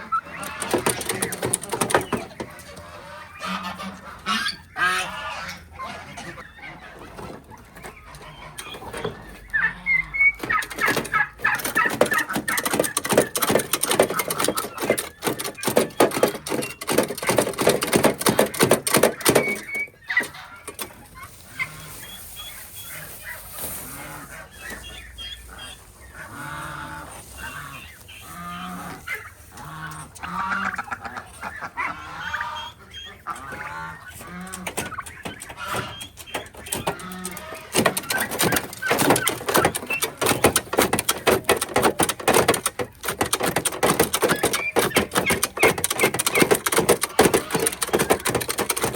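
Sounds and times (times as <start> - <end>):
poultry honking and clucking: 0.0 - 48.9.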